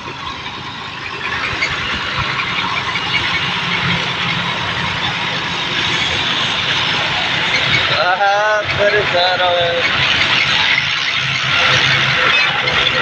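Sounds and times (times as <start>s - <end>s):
steady rushing noise: 0.0s - 13.0s
tractor diesel engine running: 0.0s - 13.0s.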